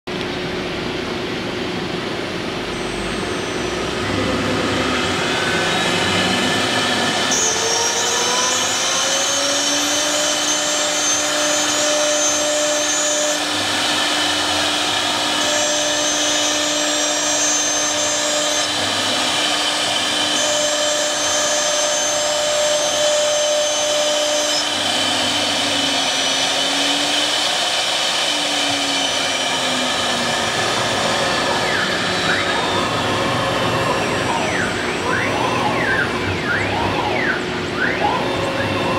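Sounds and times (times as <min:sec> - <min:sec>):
higher motor whine: 0:00.1 - 0:38.9
machine hum: 0:00.1 - 0:38.9
router spindle whine: 0:00.1 - 0:38.9.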